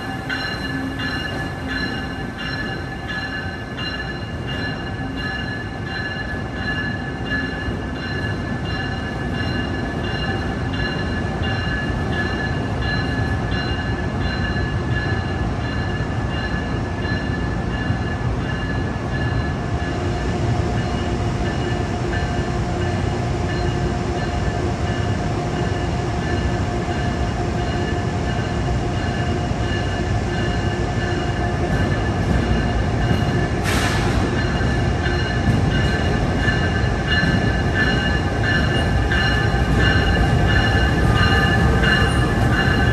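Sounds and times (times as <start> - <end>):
train rumbling: 0.0 - 42.9.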